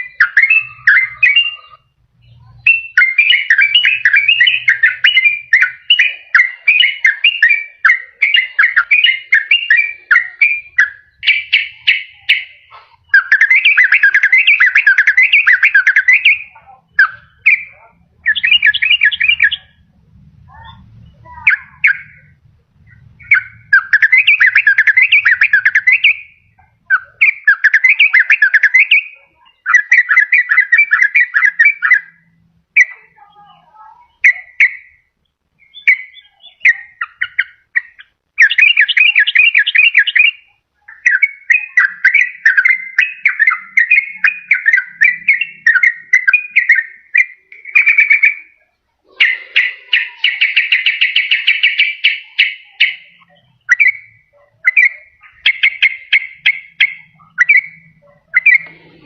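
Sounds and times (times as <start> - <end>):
bird singing chattering song: 0.0 - 59.0.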